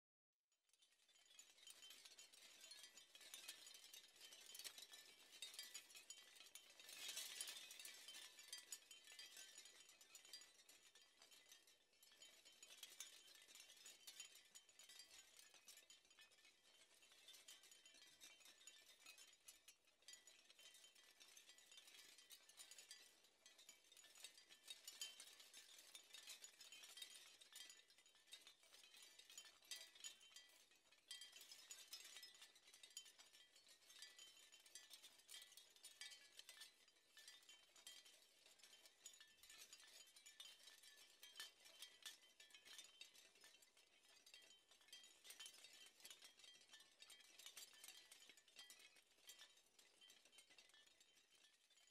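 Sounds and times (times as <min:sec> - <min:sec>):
faint high-pitched clinking and ticking: 0:00.5 - 0:51.9.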